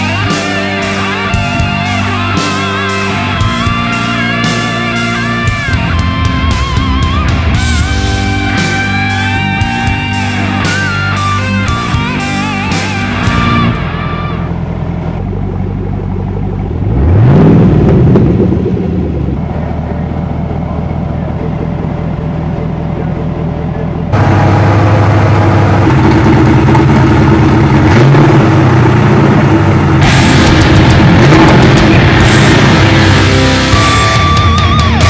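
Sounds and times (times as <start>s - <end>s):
engine revving and idling: 0.0s - 35.0s
loud engine idling: 0.0s - 35.0s.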